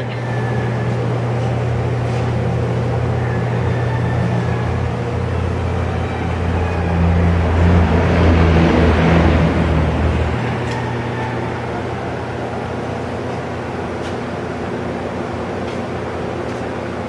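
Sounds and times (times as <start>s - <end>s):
lathe running hum: 0.0s - 17.0s.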